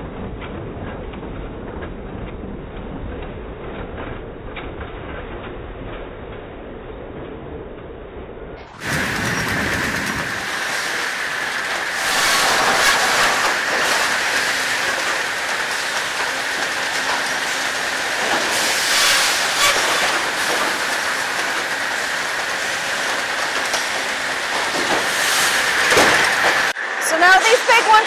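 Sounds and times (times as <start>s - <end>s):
log conveyor clatter and rumble: 0.0s - 28.0s.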